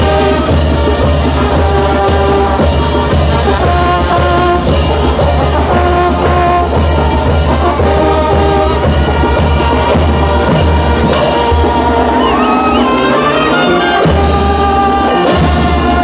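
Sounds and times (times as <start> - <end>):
brass band playing: 0.0 - 16.0
drum and cymbal beat: 0.0 - 16.0.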